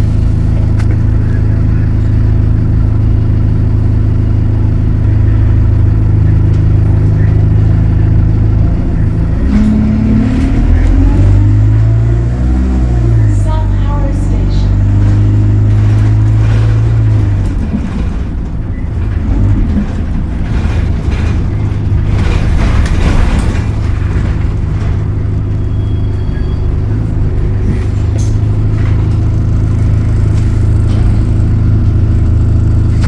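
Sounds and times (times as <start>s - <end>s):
bus engine hum: 0.0s - 33.0s
rattles: 0.0s - 33.0s
road noise: 0.0s - 33.0s.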